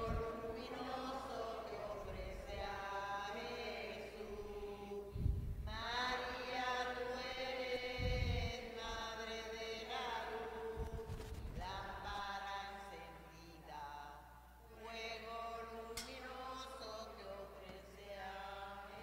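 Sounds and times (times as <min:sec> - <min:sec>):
hymn singing: 0:00.0 - 0:19.0.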